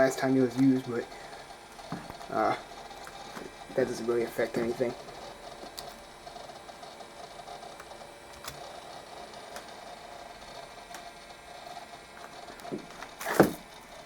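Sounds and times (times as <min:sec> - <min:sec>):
computer mechanical whir: 0:00.0 - 0:14.0
hard drive clicks: 0:00.0 - 0:14.0.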